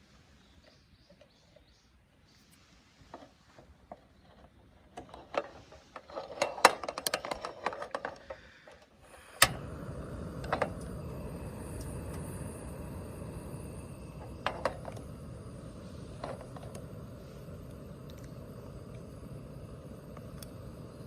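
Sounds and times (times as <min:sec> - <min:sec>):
steady rushing hiss: 0:00.0 - 0:01.0, 0:02.0 - 0:04.1, 0:04.7 - 0:21.0.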